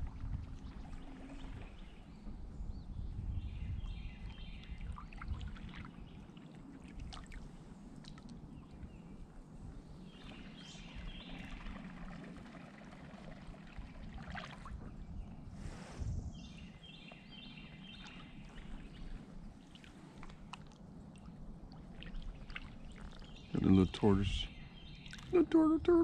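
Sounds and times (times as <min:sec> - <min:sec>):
water lapping against boat hull: 0:00.0 - 0:02.5, 0:03.8 - 0:26.0.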